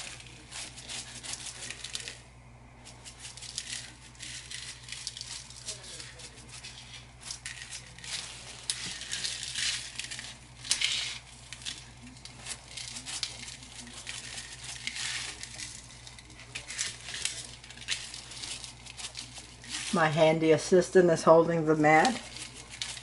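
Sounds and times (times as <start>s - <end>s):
gloved hands rustling and scraping: 0.0s - 2.2s, 2.8s - 23.0s.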